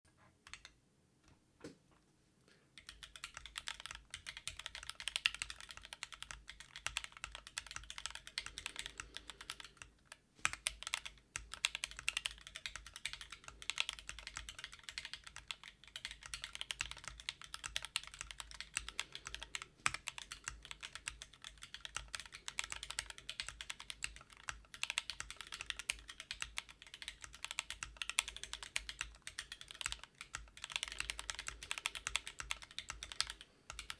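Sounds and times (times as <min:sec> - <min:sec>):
typing on mechanical keyboard: 0:02.8 - 0:33.9.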